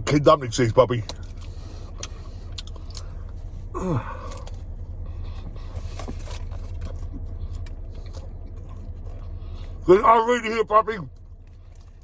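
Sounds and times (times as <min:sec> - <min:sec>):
car interior hum: 0:00.0 - 0:12.0
person chewing food: 0:01.0 - 0:09.8, 0:11.1 - 0:12.0.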